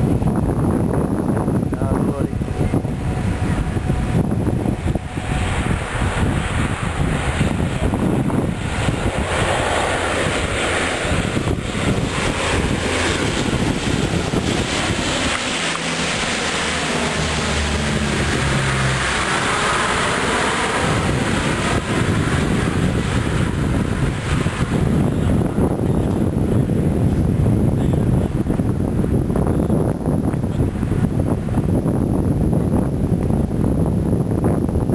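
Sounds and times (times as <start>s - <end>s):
turboprop aircraft droning overhead: 0.0s - 34.9s.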